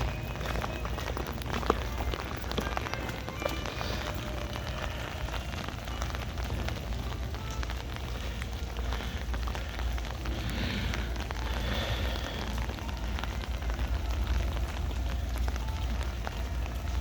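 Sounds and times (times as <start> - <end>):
constant low rumble: 0.0 - 17.0
heavy rain falling: 0.0 - 17.0
raindrops ticking close by: 0.0 - 17.0.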